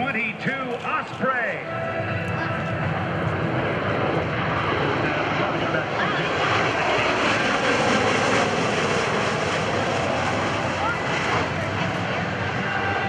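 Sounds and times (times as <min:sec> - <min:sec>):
tiltrotor aircraft flying past: 0:00.8 - 0:13.0.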